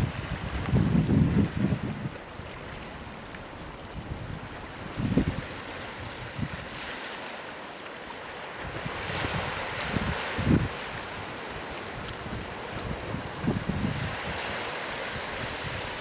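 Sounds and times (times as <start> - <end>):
low wind buffets: 0.0 - 6.8, 8.4 - 16.0
wind blowing over microphone: 0.0 - 6.9, 8.6 - 16.0
small waves lapping: 0.0 - 16.0.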